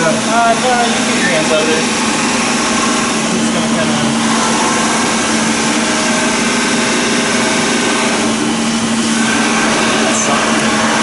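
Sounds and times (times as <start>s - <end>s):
machine motor humming with hiss: 0.0s - 11.0s.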